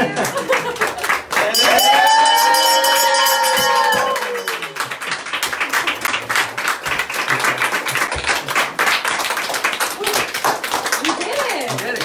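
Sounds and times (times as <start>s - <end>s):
small group clapping: 0.0s - 12.0s.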